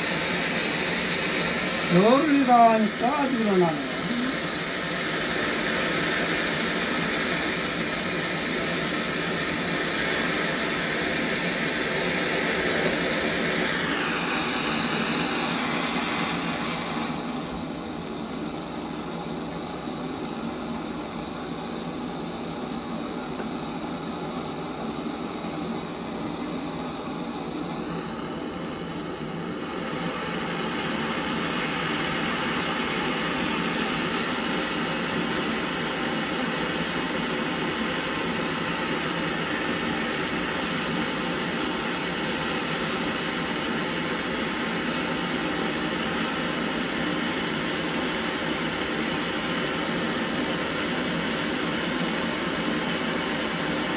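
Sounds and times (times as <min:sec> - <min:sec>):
gas torch flame hissing: 0:00.0 - 0:53.9.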